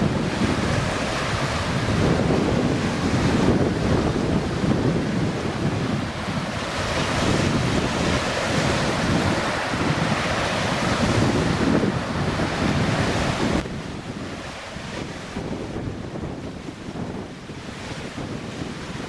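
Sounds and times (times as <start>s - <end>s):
steady rushing noise: 0.0s - 19.0s
wind buffeting microphone: 0.0s - 19.0s.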